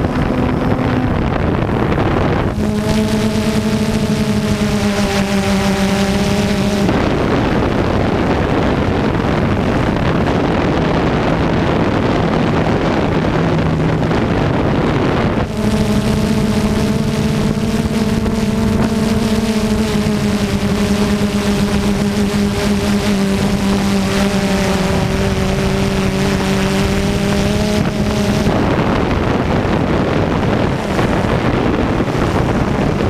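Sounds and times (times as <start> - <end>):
drone propellers humming: 0.0 - 33.0
wind rushing over microphone: 0.0 - 33.0.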